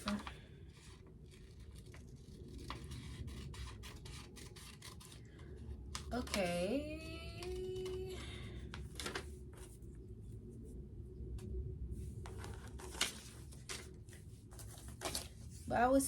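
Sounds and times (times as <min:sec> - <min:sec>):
paper rustling: 0:00.0 - 0:06.6, 0:07.3 - 0:10.0, 0:12.1 - 0:16.0
low steady hum: 0:00.0 - 0:16.0.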